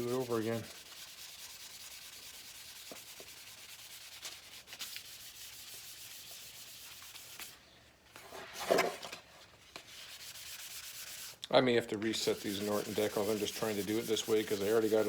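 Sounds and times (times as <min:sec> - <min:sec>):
hand sanding: 0:00.0 - 0:07.6, 0:09.8 - 0:11.4, 0:12.1 - 0:15.0.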